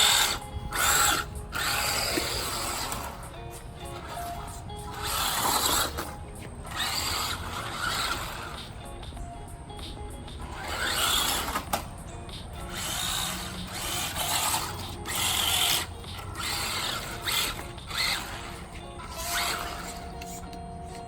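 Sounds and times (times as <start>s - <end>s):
rc car electric motor whining: 0.0s - 8.8s, 10.4s - 11.9s, 12.6s - 20.6s.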